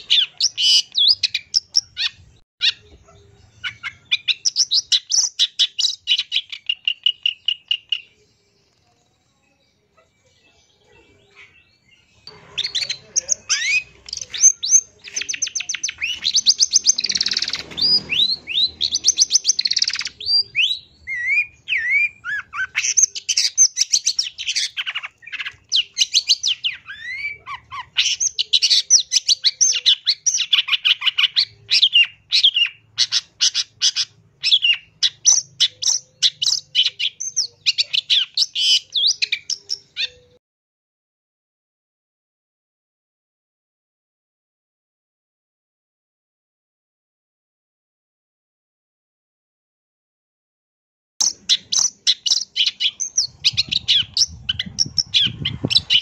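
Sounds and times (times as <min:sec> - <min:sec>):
bird singing chirps and trills: 0:00.0 - 0:40.4, 0:51.2 - 0:56.0.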